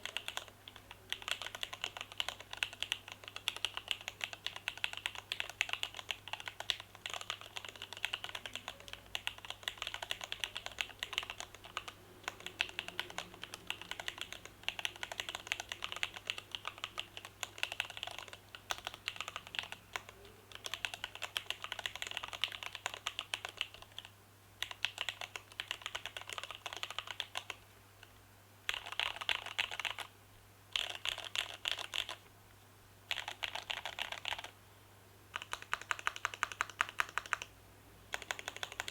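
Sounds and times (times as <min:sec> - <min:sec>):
mechanical keyboard typing: 0:00.0 - 0:27.6, 0:28.7 - 0:30.1, 0:30.8 - 0:32.2, 0:33.1 - 0:34.5, 0:35.3 - 0:37.5, 0:38.1 - 0:38.9.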